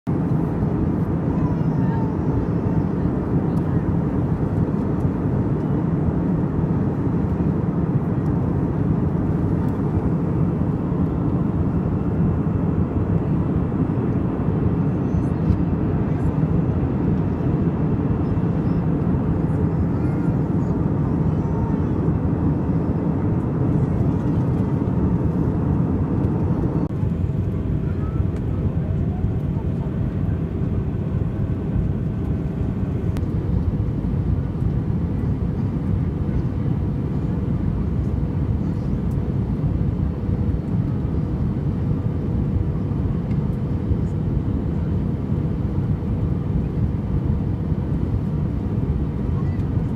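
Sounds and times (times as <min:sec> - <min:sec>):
jet engines rumbling: 0:00.1 - 0:49.9.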